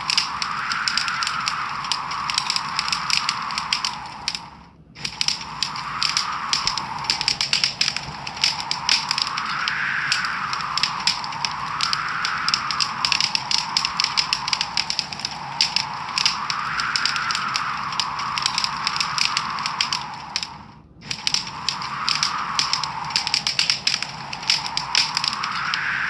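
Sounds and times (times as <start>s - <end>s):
soft whooshing of fire: 0.0s - 26.0s
wood fire crackling and popping: 0.0s - 26.0s.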